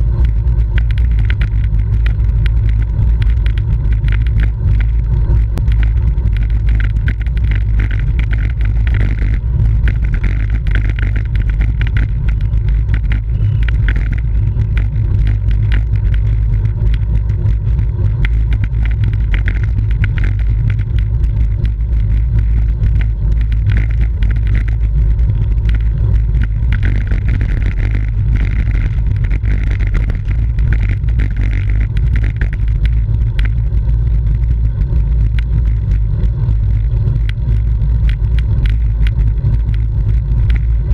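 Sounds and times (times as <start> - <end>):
road and tyre noise: 0.0 - 40.9
small ticks: 0.0 - 40.9.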